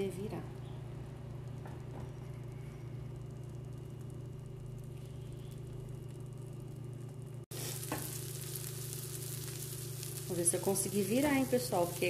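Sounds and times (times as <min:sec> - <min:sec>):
steady low hum: 0:00.0 - 0:12.0
omelette sizzling in a pan: 0:00.1 - 0:12.0.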